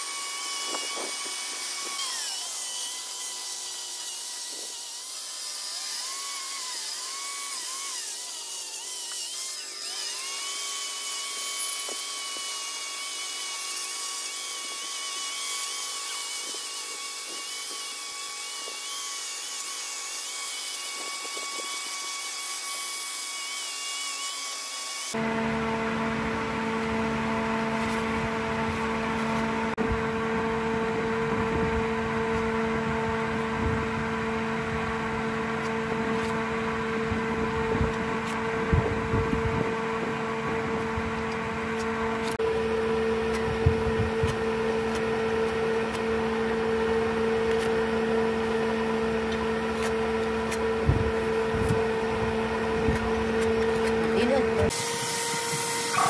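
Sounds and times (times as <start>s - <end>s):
electric motor humming: 0.0s - 56.0s.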